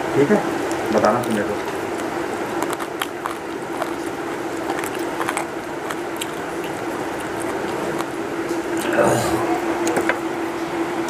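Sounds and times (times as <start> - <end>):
steady low hum: 0.0 - 11.0
chewing and gnawing bone: 0.5 - 10.3.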